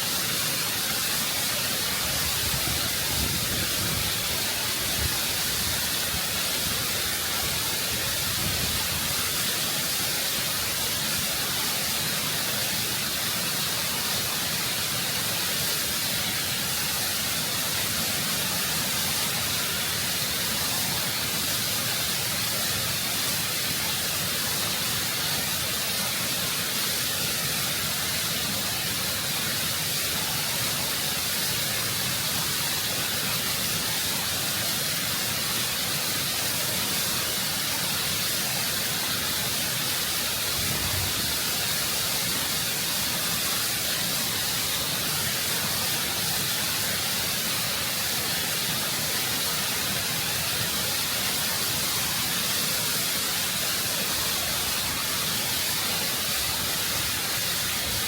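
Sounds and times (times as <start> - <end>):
waterfall cascading over rock: 0.0 - 58.0.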